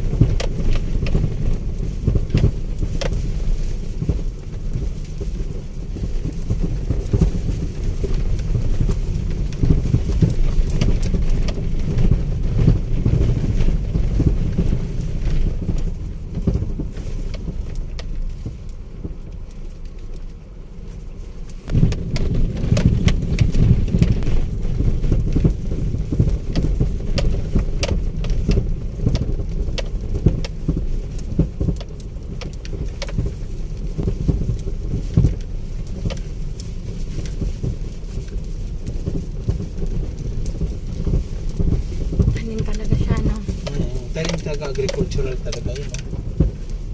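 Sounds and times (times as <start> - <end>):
low rumble of engine and tyres: 0.0 - 46.9.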